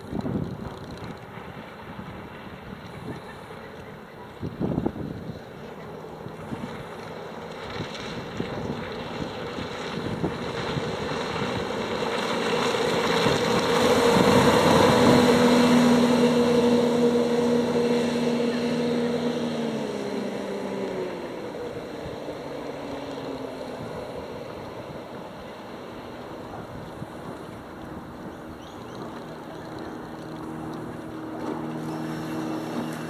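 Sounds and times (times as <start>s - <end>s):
hull rushing through water: 0.0s - 33.0s
outboard motor at speed: 0.0s - 33.0s.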